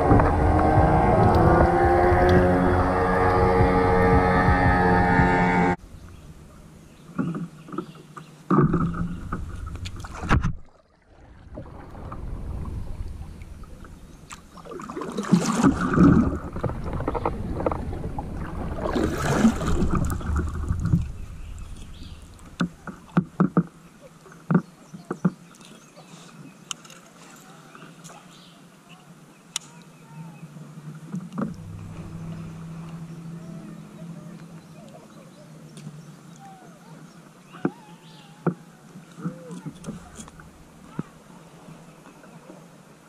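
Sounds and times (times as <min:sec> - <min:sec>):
paddle splashing in water: 0:00.0 - 0:43.0.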